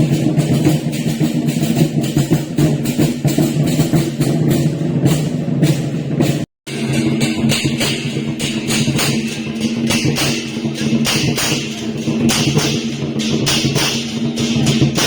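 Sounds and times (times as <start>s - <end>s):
loud music with drums and percussion: 0.0s - 15.0s.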